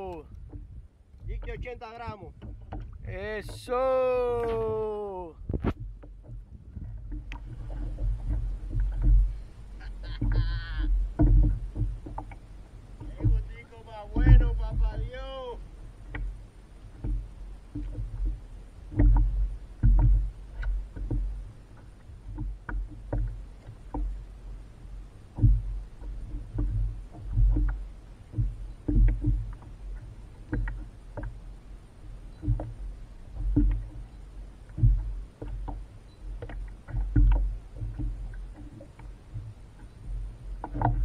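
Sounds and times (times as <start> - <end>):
water slapping against kayak hull: 0.0 - 41.0.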